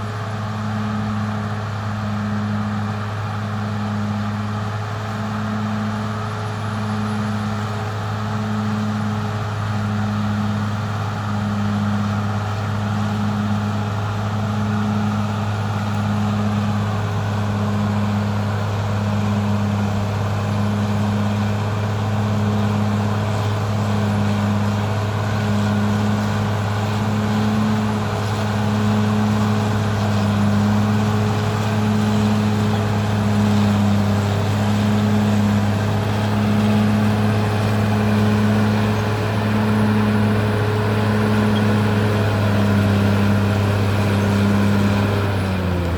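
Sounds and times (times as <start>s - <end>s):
bulldozer diesel engine throbbing: 0.0s - 45.9s.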